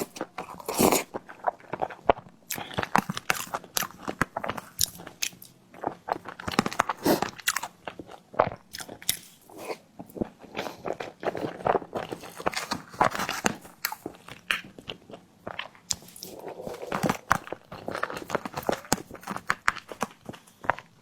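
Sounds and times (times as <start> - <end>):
person biting and chewing: 0.0 - 21.0
wet mouth noises: 0.0 - 21.0.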